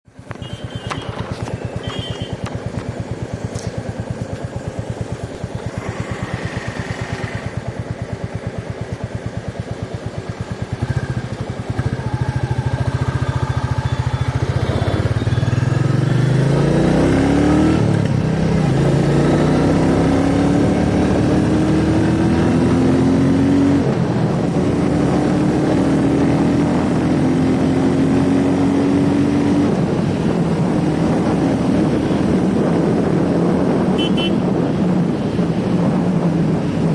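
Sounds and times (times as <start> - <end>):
motorcycle engine: 0.0 - 36.9.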